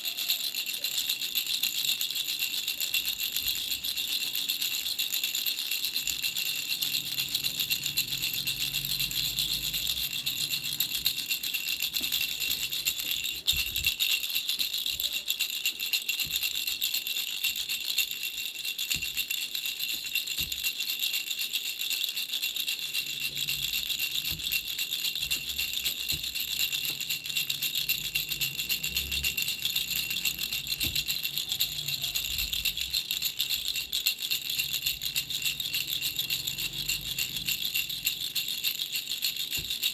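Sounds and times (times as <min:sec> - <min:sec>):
baby bell rattle jingling: 0:00.0 - 0:39.9.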